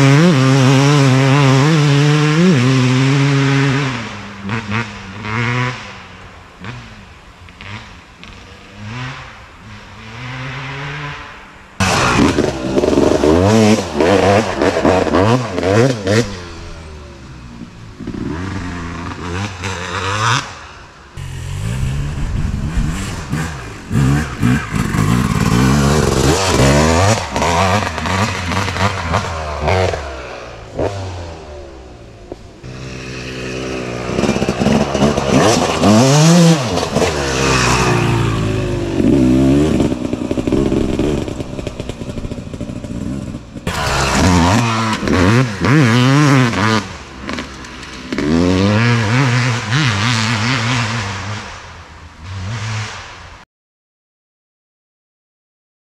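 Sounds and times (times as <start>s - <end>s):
motocross engine revving: 0.0s - 6.0s, 7.6s - 51.6s.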